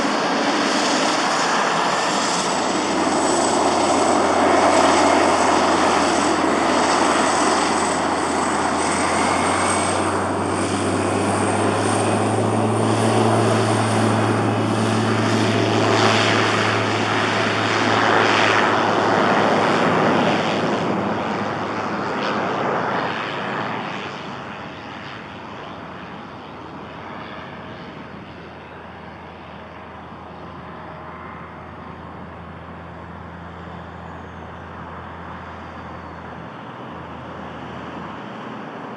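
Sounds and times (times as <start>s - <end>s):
high turbine whine: 0.0s - 38.9s
propeller hum: 0.0s - 38.9s.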